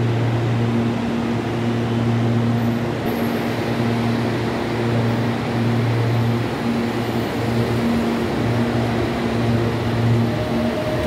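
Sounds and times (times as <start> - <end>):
electric train hum: 0.0 - 11.0
train rolling rush: 0.0 - 11.0.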